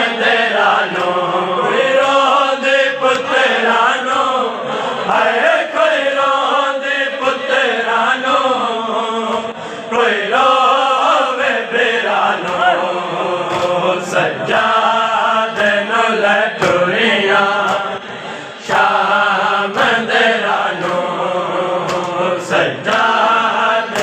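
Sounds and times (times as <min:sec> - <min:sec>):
men chanting a lament: 0:00.0 - 0:24.0.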